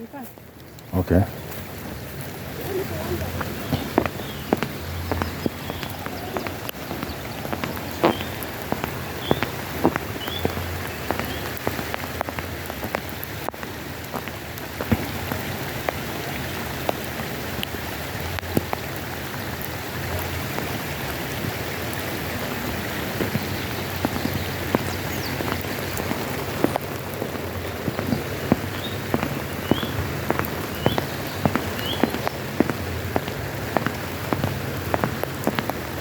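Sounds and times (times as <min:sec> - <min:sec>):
sharp drips and ticks: 0:00.0 - 0:36.0
water drops pattering: 0:00.0 - 0:36.0.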